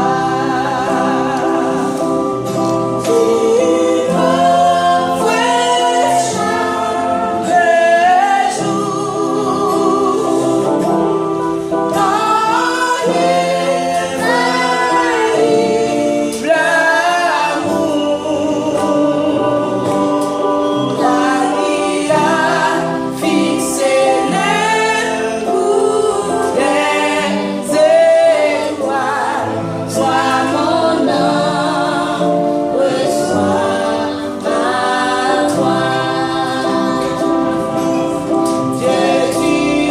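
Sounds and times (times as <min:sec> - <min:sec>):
woman and children singing gospel: 0:03.0 - 0:10.8, 0:11.9 - 0:39.9.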